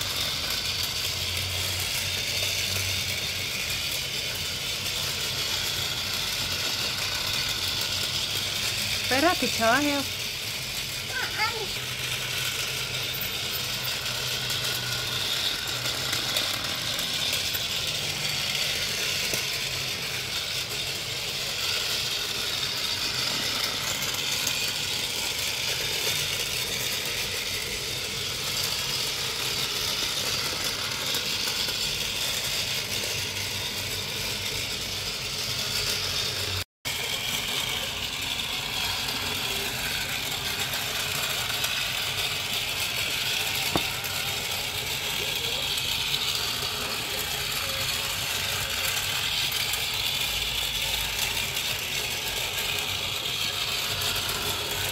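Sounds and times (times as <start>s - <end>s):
toy train whirring rattle: 0.0s - 54.9s.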